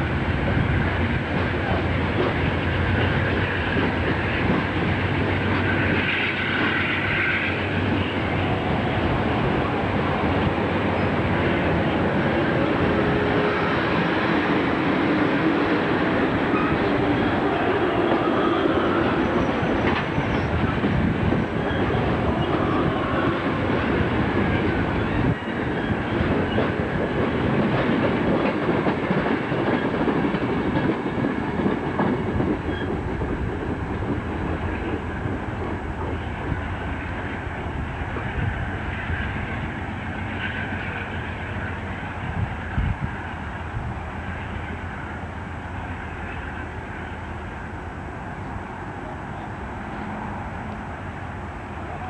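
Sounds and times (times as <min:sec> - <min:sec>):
train wheels clattering on rails: 0:00.0 - 0:43.2.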